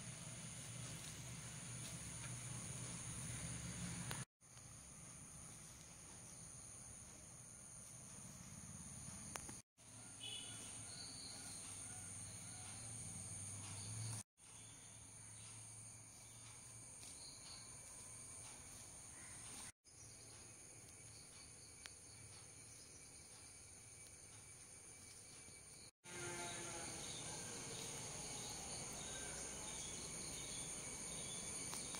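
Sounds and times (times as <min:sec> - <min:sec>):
insects trilling: 0:00.2 - 0:31.9.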